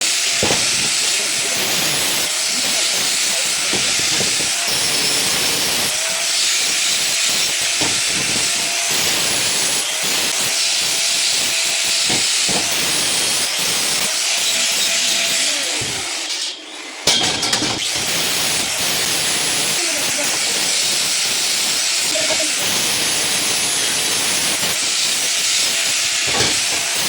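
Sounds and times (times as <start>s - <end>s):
welding arc hissing: 0.0s - 16.4s, 17.5s - 27.0s.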